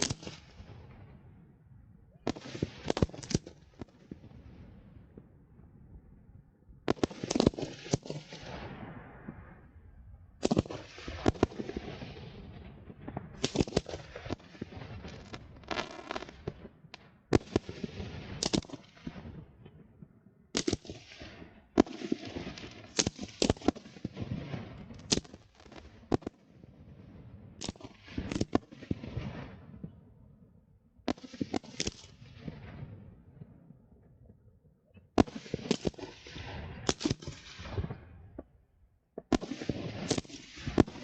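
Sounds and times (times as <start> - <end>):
fireworks bangs: 0.0 - 1.2, 2.2 - 5.8, 6.8 - 9.8, 10.4 - 30.2, 31.0 - 33.8, 35.0 - 41.0.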